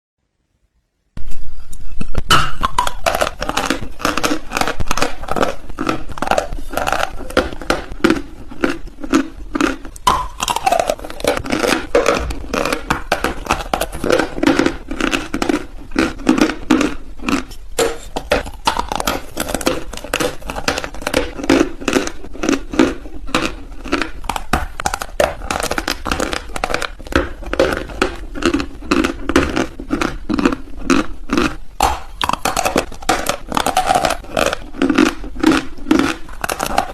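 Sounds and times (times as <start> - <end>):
chalk being chewed: 1.2 - 36.9.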